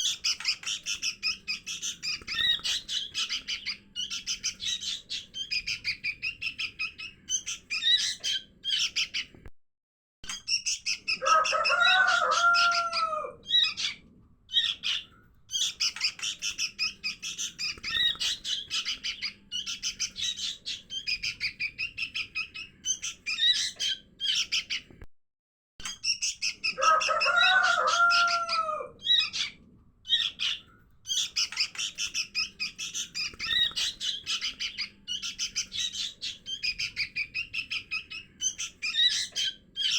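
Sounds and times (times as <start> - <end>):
bulbuls chirping: 0.0 - 9.4, 10.3 - 24.9, 25.8 - 39.9.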